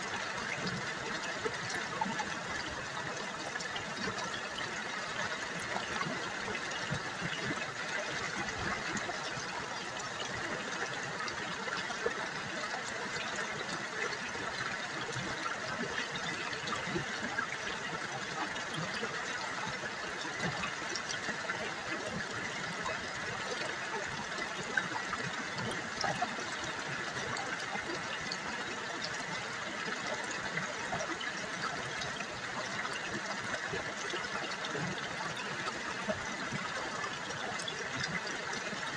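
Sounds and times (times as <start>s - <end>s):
river water burbling over stones: 0.0s - 38.9s.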